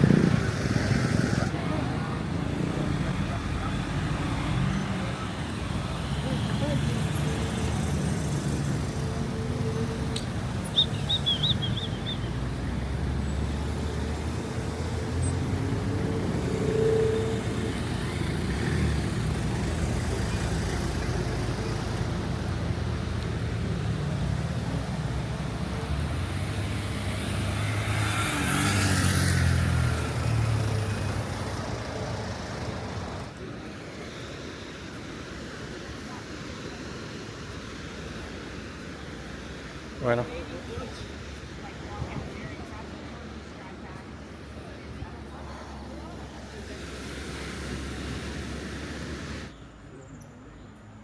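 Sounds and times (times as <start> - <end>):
vehicle engine and road noise: 0.0 - 51.0.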